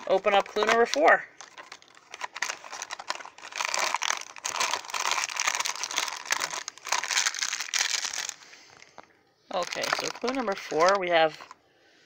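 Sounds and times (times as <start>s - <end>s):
foil bag crinkling: 0.0s - 11.6s.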